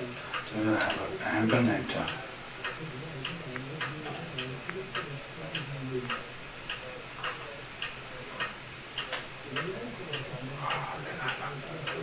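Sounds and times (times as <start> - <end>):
clock ticking: 0.3 - 12.0.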